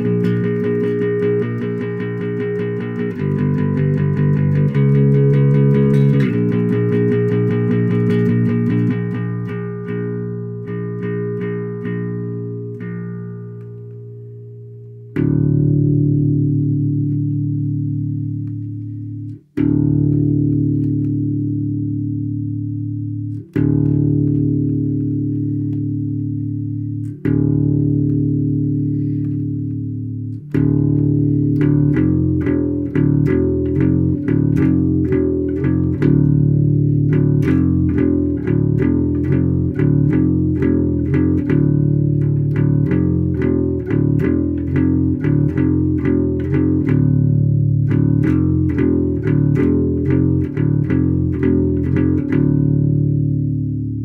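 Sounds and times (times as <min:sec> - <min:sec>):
bass guitar: 0:00.0 - 0:54.0
fast picked guitar notes: 0:00.0 - 0:54.0
ringing electric guitar chords: 0:00.0 - 0:54.0.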